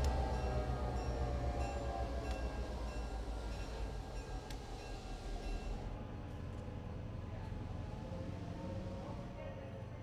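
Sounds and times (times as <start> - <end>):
faint steady tones: 0.0 - 10.0.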